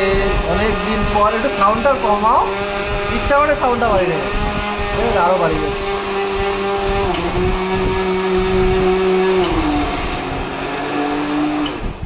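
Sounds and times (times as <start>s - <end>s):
mixer grinder motor whine: 0.0s - 12.0s.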